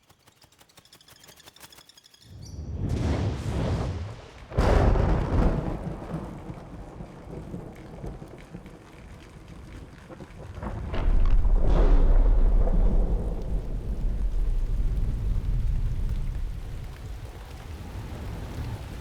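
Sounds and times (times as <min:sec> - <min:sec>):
thunder rumbling: 0:02.6 - 0:19.0
loud thunderclap: 0:02.7 - 0:19.0
rain-like hiss: 0:03.3 - 0:19.0.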